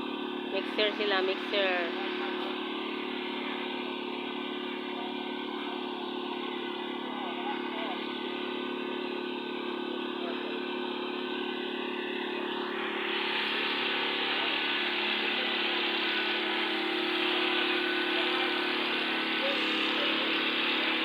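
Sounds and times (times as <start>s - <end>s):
concrete mixer engine running: 0.0s - 21.0s.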